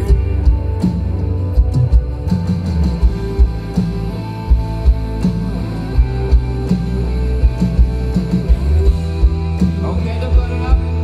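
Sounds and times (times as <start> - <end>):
bass: 0.0 - 11.0
drum kit beat: 0.0 - 11.0
guitar: 0.0 - 11.0.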